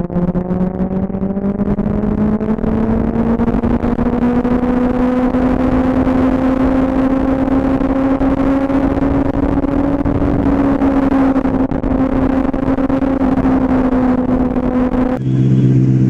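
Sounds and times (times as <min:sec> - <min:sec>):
wind on microphone: 0:00.0 - 0:15.7
motorcycle engine running: 0:00.0 - 0:16.0.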